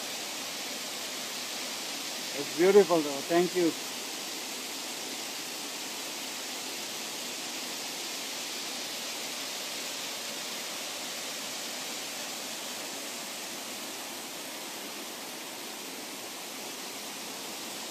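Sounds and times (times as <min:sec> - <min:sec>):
rushing water: 0:00.0 - 0:17.9.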